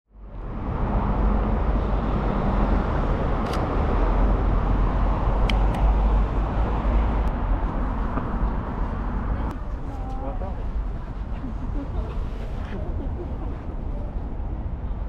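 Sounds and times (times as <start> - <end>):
road traffic rumble: 0.1 - 15.0.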